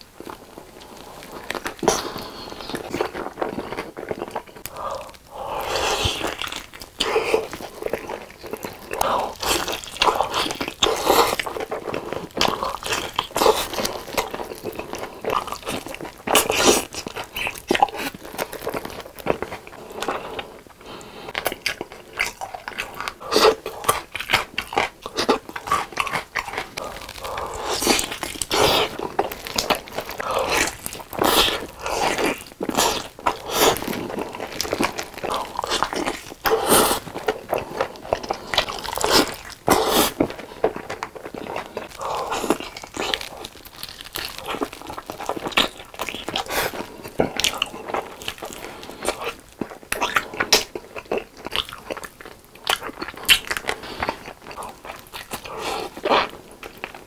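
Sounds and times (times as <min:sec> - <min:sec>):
wet sticky chewing: 0:00.2 - 0:57.0
crunchy bites of fried chicken: 0:01.2 - 0:20.2, 0:21.3 - 0:57.0.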